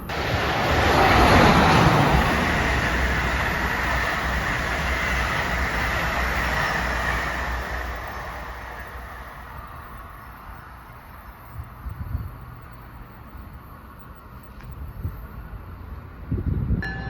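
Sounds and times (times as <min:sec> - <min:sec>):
train wheels rushing on rail: 0:00.0 - 0:16.9.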